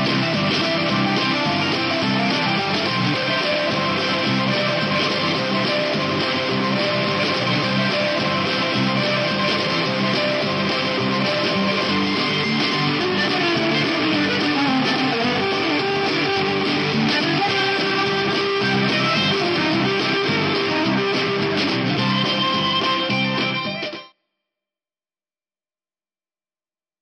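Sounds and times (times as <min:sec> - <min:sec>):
guitar music: 0:00.0 - 0:24.1.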